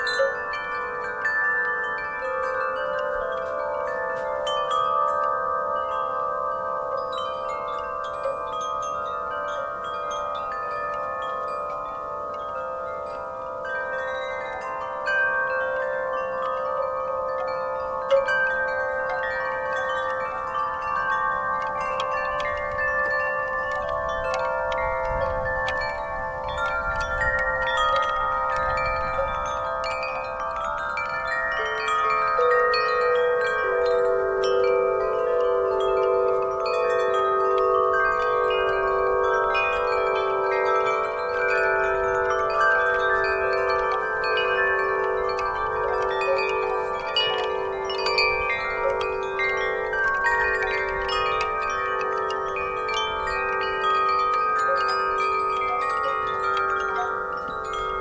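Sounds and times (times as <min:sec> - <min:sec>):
low wind chime tone: 0:00.0 - 0:58.0
wind chimes ringing: 0:00.0 - 0:58.0.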